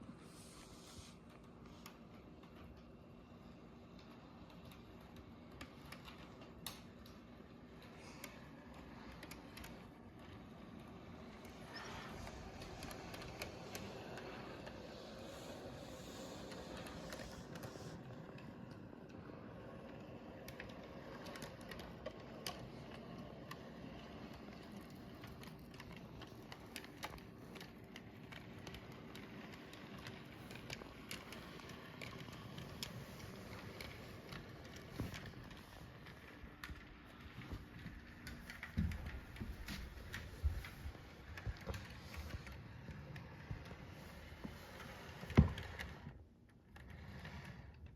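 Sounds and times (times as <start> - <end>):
model locomotive hum: 0.0 - 47.9.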